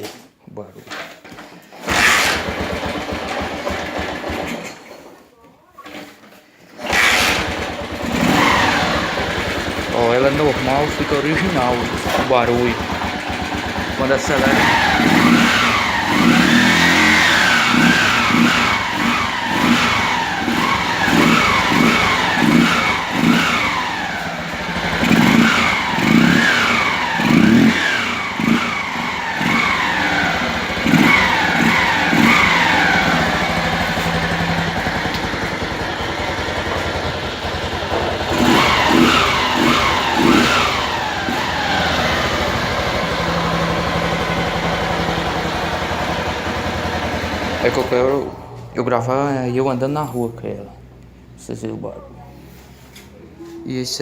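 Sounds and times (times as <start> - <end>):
motorcycle engine revving: 1.8 - 4.8, 6.8 - 49.9.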